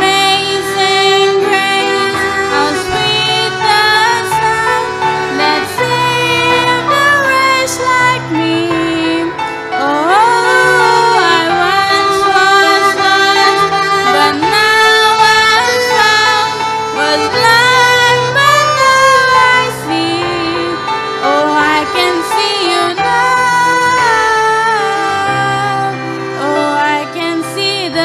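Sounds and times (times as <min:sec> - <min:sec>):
digital piano: 0:00.0 - 0:28.0
violin: 0:00.0 - 0:28.0
woman singing: 0:00.0 - 0:28.0.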